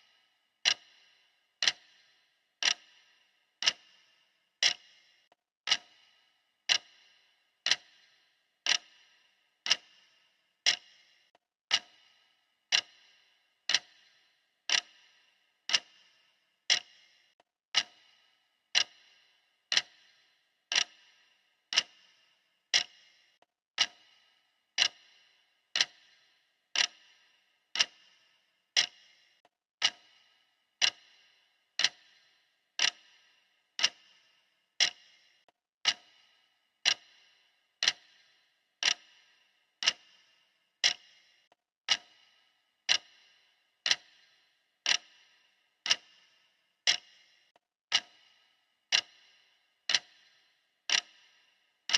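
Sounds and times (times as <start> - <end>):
clock ticking: 0.0 - 51.9.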